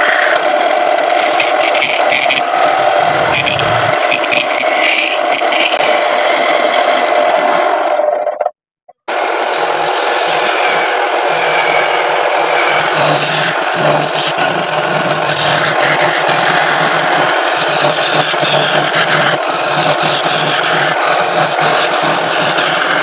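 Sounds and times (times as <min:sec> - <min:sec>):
lathe tool rasping on wood: 0:01.1 - 0:07.1, 0:09.5 - 0:23.0.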